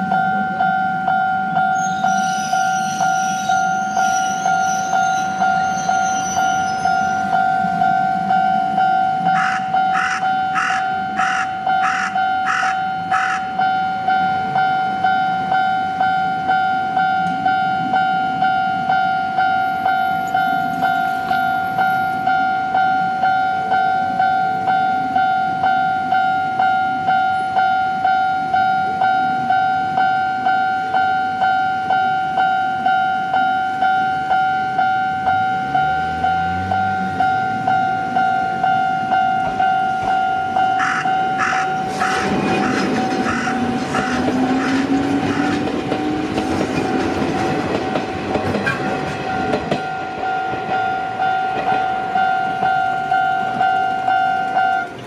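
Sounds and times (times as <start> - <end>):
level crossing two-tone warning bell: 0.0 - 48.3, 48.9 - 55.0.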